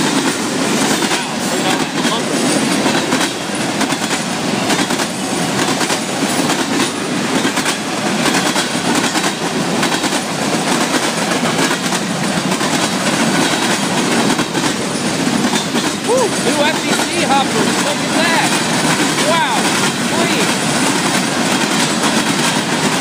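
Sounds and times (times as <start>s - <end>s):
freight train rolling by: 0.0s - 23.0s
train wheels clacking: 0.0s - 23.0s.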